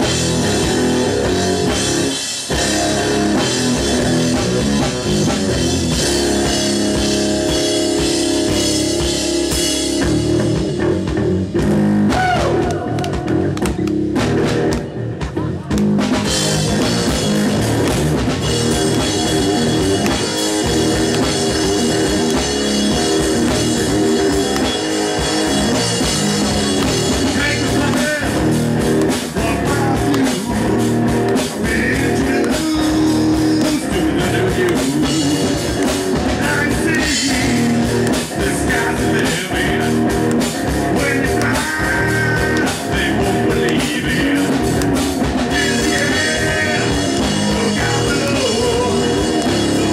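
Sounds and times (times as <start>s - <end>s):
live punk rock band: 0.0s - 49.9s.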